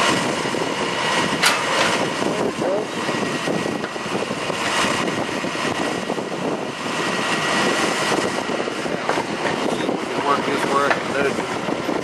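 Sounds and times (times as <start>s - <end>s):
bus and wheelchair lift droning: 0.0s - 12.0s.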